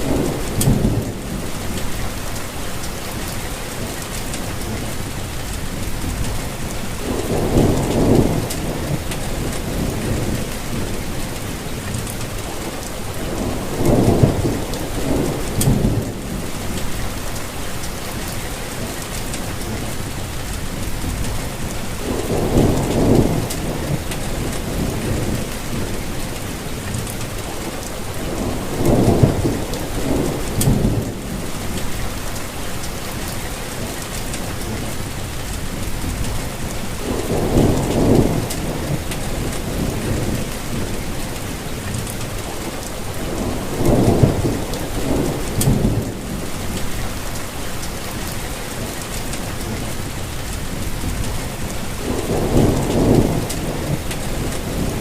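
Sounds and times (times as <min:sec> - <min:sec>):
low rumble of thunder: 0:00.0 - 0:55.0
steady rainfall: 0:00.0 - 0:55.0.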